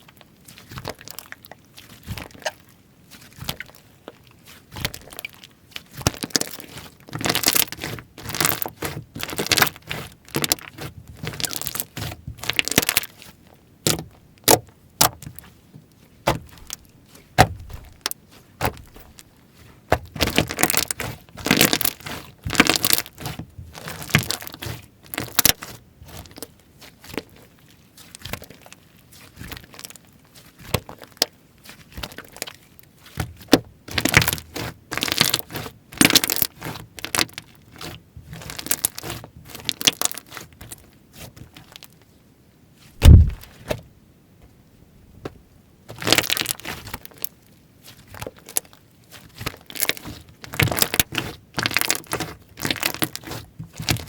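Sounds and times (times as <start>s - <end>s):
slime crackling and popping: 0.5s - 15.5s, 19.9s - 27.4s, 28.0s - 41.9s, 43.0s - 43.5s, 45.9s - 54.0s.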